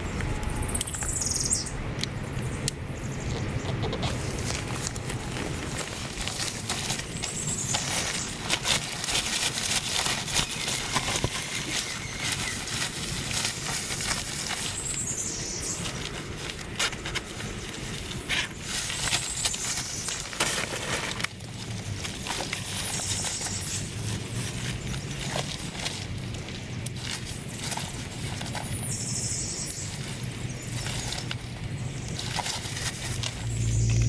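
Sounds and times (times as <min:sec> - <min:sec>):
handling clicks and scratches: 0:02.0 - 0:34.0.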